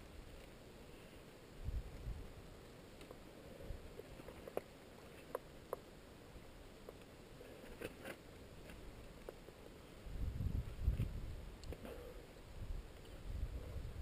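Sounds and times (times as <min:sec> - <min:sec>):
quiet outdoor background: 0:00.0 - 0:14.0.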